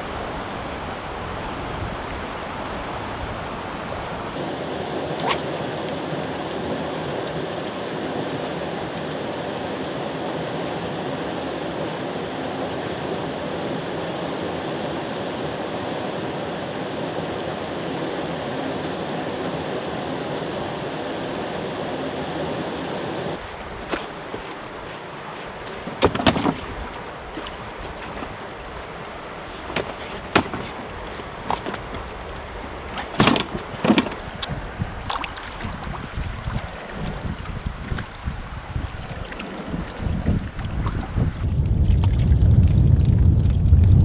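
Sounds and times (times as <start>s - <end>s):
white water rushing: 0.0s - 40.2s.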